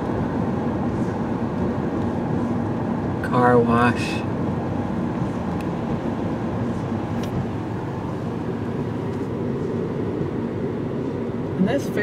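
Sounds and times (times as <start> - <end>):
road and engine noise inside car: 0.0 - 12.0.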